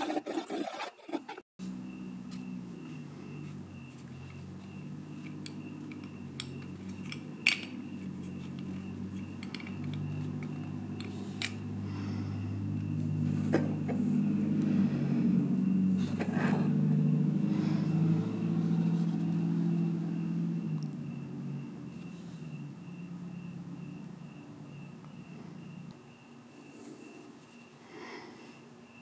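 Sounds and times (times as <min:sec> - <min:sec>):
low droning hum: 0:01.6 - 0:26.2.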